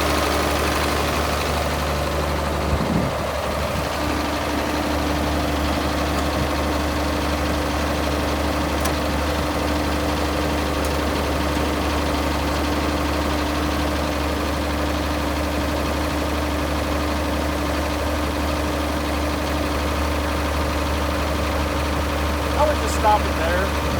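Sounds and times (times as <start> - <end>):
tractor diesel engine idling: 0.0 - 23.9.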